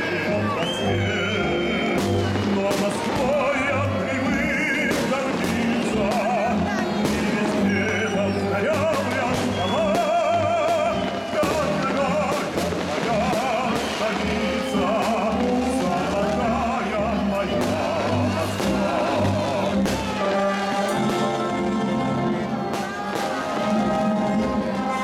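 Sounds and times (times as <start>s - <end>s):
fireworks bursting and crackling: 0.0s - 25.0s
musical accompaniment: 0.0s - 25.0s
person singing with vibrato: 0.0s - 25.0s.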